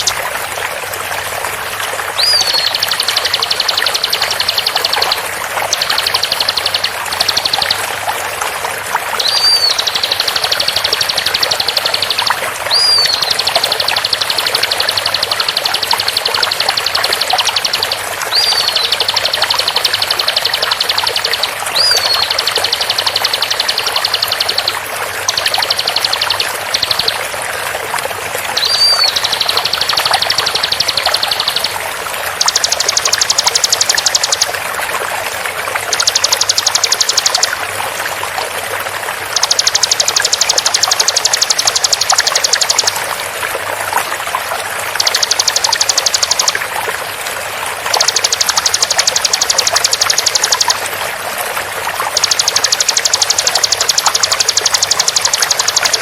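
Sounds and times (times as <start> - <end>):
bird song rapid repeated notes: 0.0 - 56.0
running water: 0.0 - 56.0.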